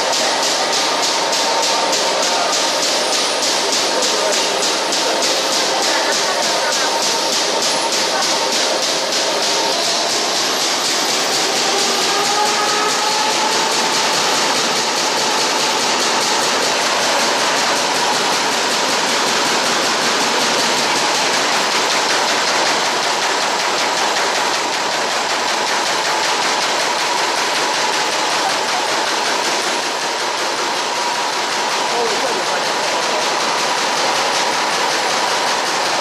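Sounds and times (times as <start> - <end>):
paper cutting machine clattering: 0.0 - 36.0.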